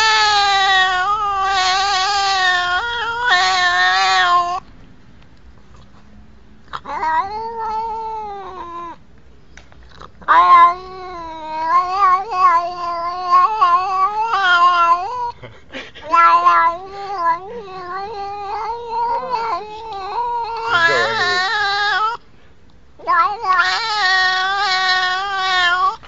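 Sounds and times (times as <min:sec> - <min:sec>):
cat yowling meows: 0:00.0 - 0:04.6, 0:06.8 - 0:09.0, 0:10.2 - 0:15.4, 0:16.0 - 0:22.2, 0:23.0 - 0:26.0.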